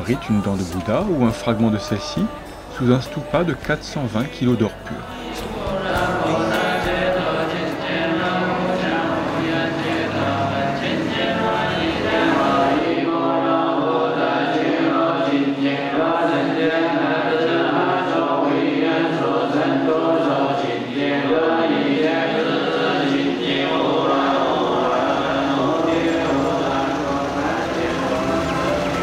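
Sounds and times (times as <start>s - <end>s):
congregation chanting in unison: 0.0s - 29.0s.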